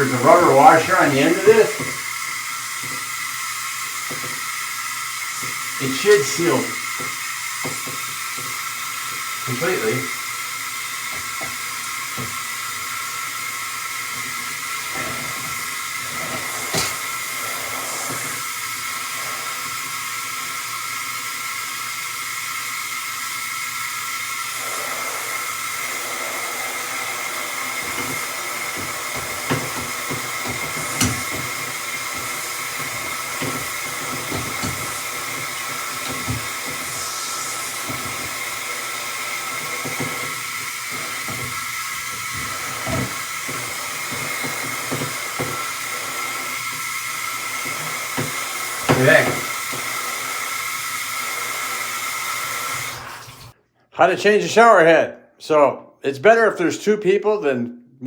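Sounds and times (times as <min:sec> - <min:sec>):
shower head spraying water: 0:00.0 - 0:53.6.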